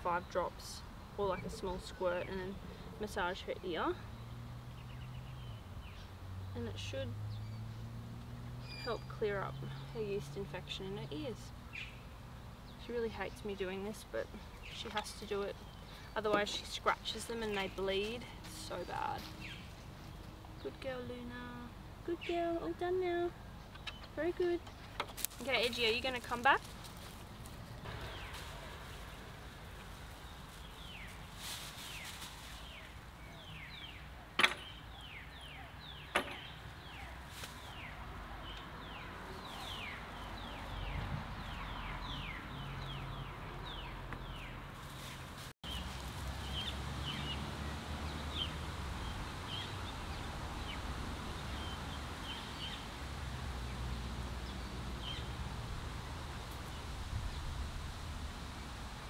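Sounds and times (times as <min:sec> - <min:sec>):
small birds chirping: 0:00.0 - 0:57.8.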